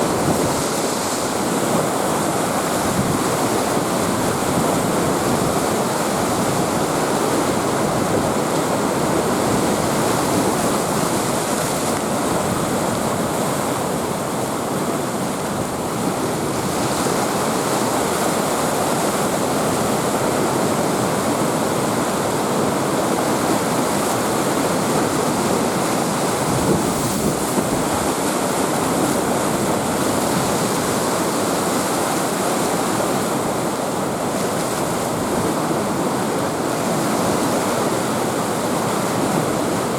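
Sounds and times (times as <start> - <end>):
waves breaking: 0.0 - 39.9
wind: 0.0 - 39.9.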